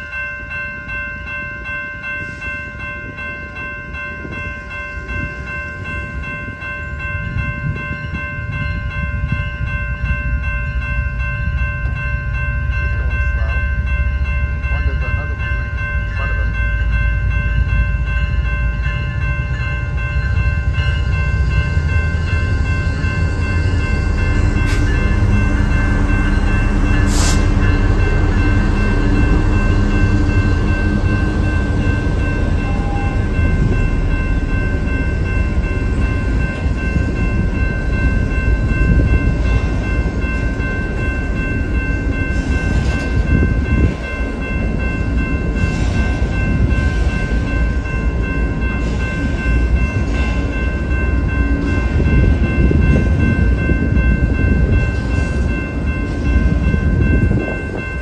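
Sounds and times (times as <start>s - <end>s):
crossing warning bell ringing: 0.0s - 58.0s
diesel locomotive rumbling: 0.0s - 58.0s.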